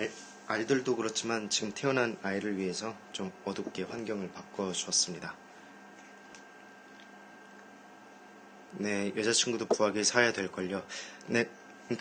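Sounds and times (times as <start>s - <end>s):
incubator hum with high whine: 0.0s - 12.0s.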